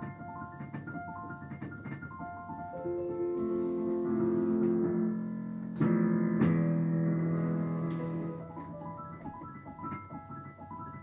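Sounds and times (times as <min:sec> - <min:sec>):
digital piano playing: 0:00.0 - 0:11.0.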